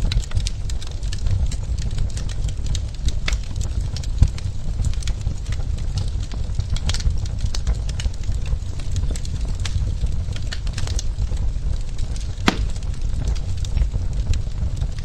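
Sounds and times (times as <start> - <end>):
fire low rumble: 0.0 - 15.0
logs crackling and popping: 0.0 - 15.0.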